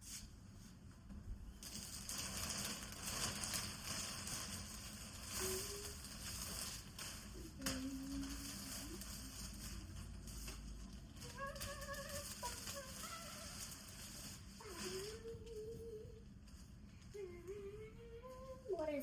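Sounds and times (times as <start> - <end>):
clothing and packaging rustling: 0.0 - 19.0
faint pitched hum: 0.0 - 19.0.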